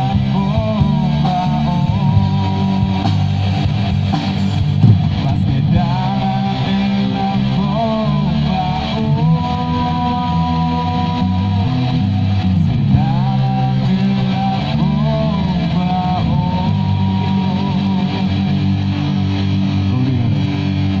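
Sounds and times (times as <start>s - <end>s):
bass guitar: 0.0s - 21.0s
electric guitar bending notes: 0.0s - 21.0s.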